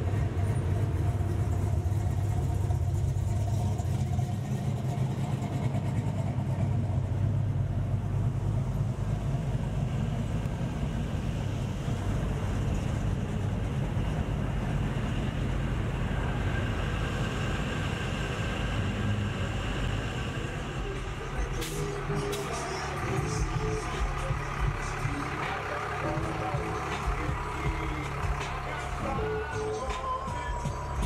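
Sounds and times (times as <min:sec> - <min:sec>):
pickup truck engine rumbling: 0:00.0 - 0:31.0.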